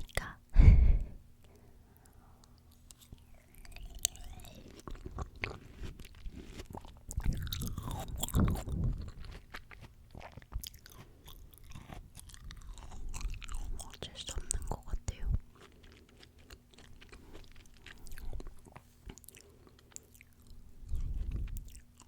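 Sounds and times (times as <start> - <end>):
biting and chewing fruit: 1.4 - 22.0.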